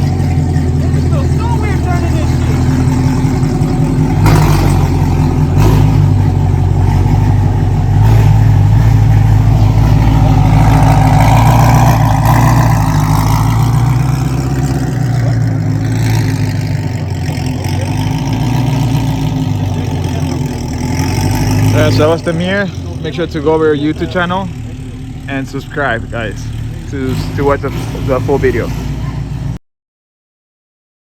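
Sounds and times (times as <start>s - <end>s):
car engine running: 0.0s - 29.6s.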